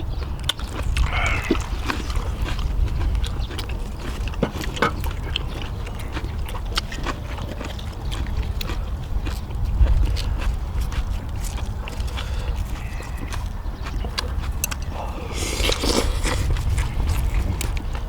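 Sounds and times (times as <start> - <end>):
chewing and lip-smacking: 0.0 - 18.0.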